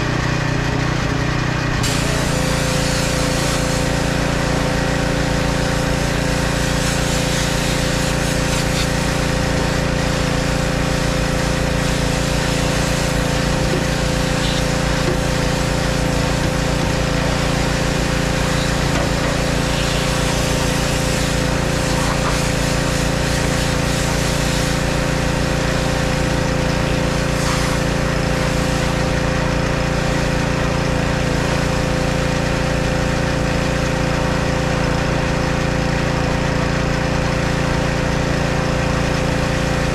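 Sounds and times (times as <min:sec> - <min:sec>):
engine drone: 0:00.0 - 0:39.9
pressure washer spraying water: 0:01.8 - 0:39.9.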